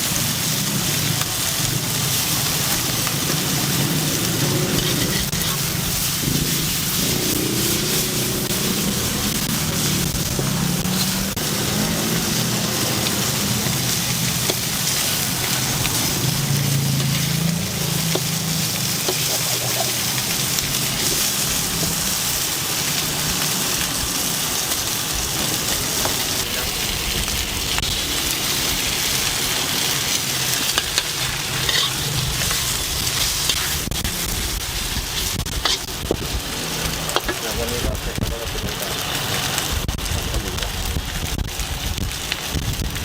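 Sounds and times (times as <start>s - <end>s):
food sizzling in a wok: 0.0s - 43.0s.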